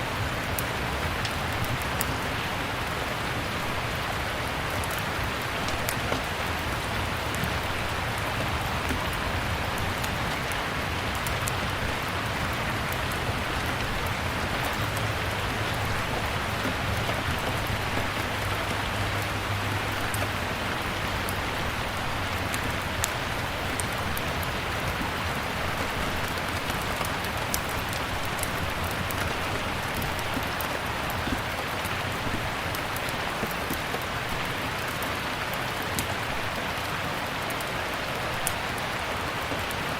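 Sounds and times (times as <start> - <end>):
wood fire crackling: 0.0 - 38.8
rain falling: 0.0 - 39.9.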